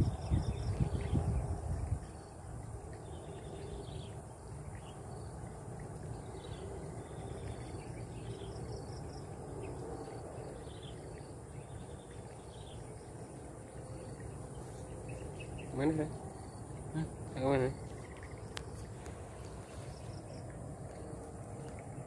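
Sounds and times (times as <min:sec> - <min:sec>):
insects chirring: 0:03.1 - 0:22.0.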